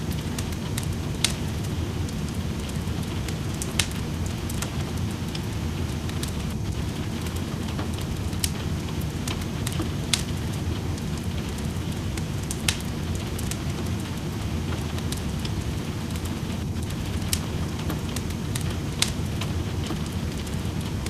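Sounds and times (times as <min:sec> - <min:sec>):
steady rain: 0:00.0 - 0:21.0
wood fire crackling and popping: 0:00.0 - 0:21.0.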